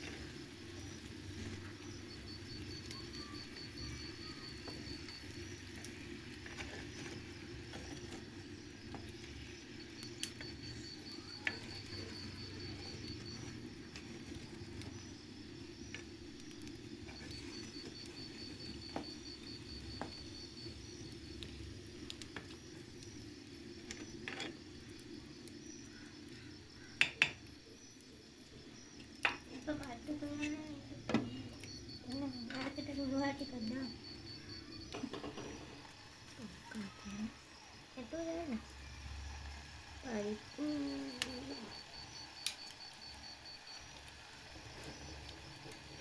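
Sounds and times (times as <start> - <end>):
insect trilling: 0.0 - 46.0.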